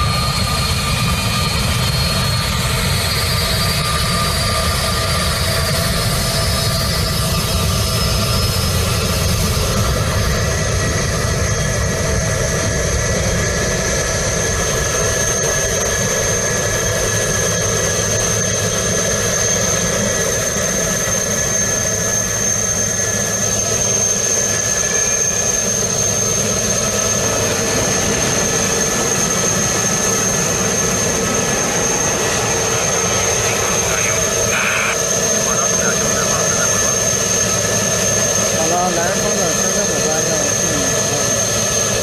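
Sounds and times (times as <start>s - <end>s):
jet engines with high whine: 0.0s - 42.0s.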